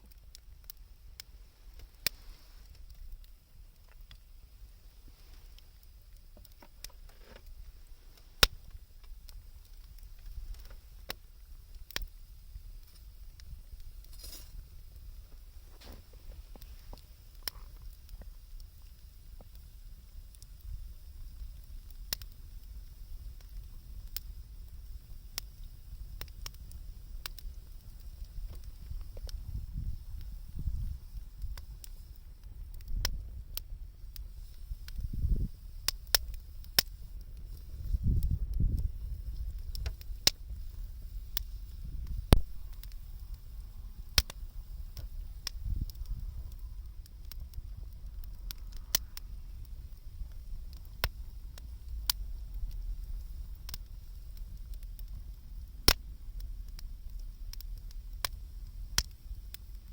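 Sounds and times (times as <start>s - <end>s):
wood campfire crackling: 0.0s - 59.9s.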